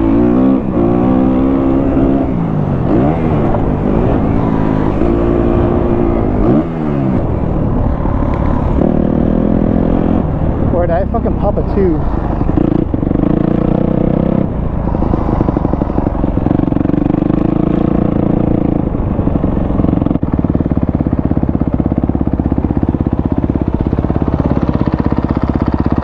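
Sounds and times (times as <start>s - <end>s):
dirt bike engine revving and idling: 0.0s - 26.0s.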